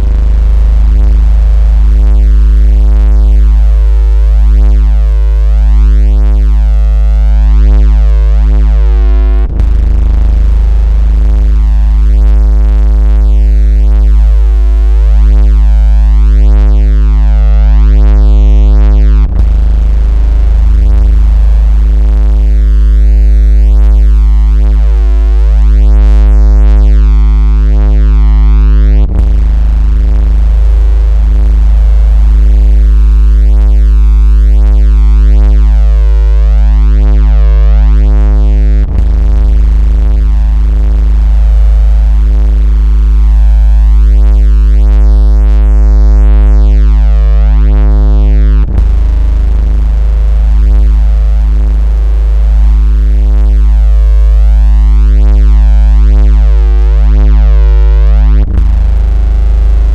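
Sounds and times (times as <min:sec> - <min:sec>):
deep synthesized buzzing tone: 0:00.0 - 0:59.9.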